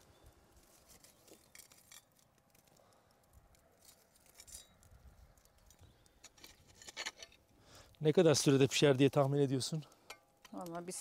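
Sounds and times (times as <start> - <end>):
faint clicks from ember fire: 0.6 - 8.1, 9.0 - 11.0.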